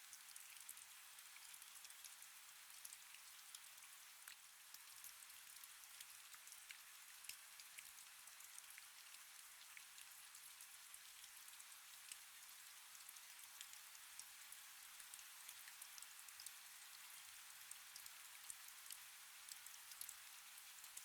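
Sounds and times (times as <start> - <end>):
faint rain with ticking drops: 0.0 - 21.0.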